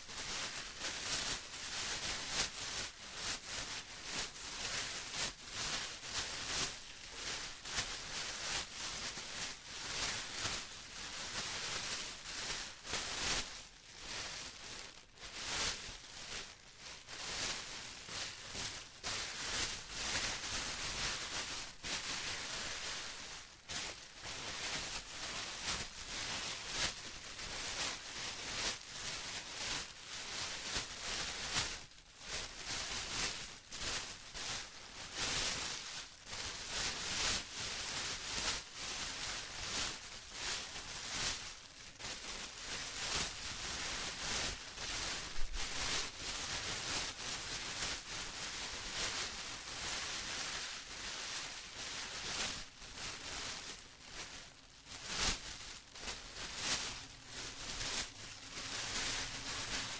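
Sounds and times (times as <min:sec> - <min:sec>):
plastic rustling and crinkling: 0:00.0 - 0:59.9.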